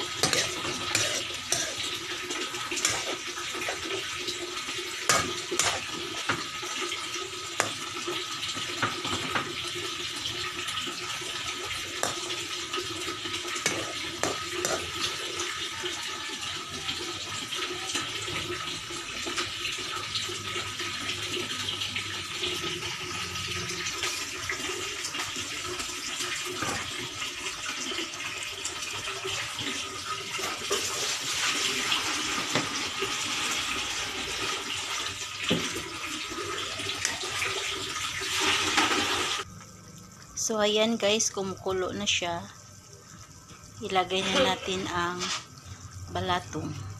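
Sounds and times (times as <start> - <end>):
meat sizzling in a wok: 0.0 - 39.5.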